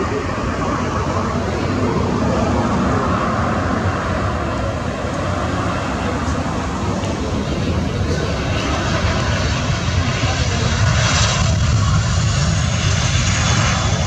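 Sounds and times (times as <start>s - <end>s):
jet airliner engines: 0.0s - 14.0s.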